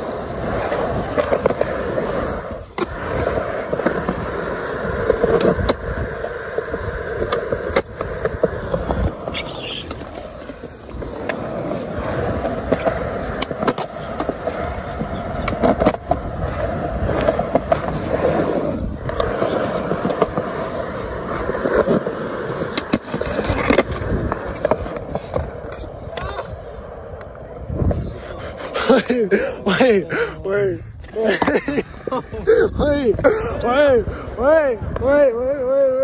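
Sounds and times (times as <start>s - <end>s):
skateboard wheels rolling on concrete: 0.0s - 36.0s.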